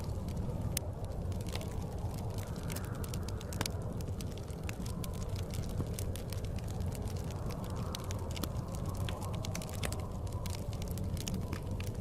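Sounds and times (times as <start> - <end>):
blizzard wind rumble: 0.0 - 12.0
wood fire crackling and popping: 0.0 - 12.0.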